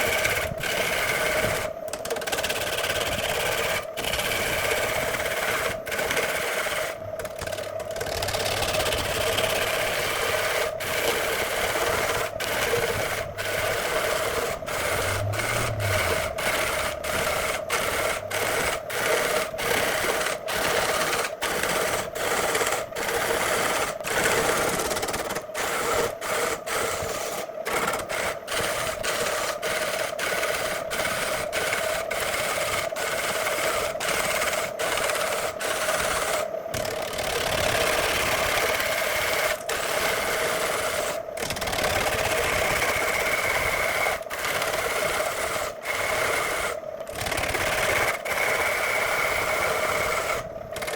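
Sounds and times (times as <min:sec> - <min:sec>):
woodworking machine motor hum: 0:00.0 - 0:50.9.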